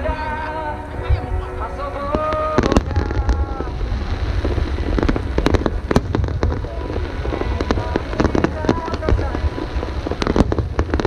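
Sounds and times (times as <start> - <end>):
continuous low rumble: 0.0 - 11.0
fireworks bursting with sharp bangs: 0.0 - 11.0.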